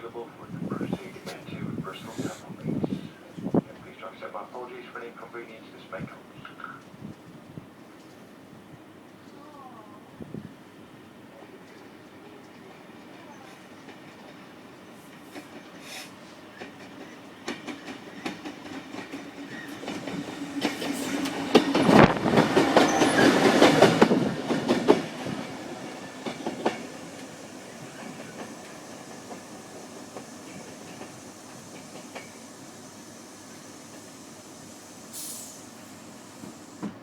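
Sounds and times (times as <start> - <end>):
diesel locomotive engine: 0.0 - 37.0.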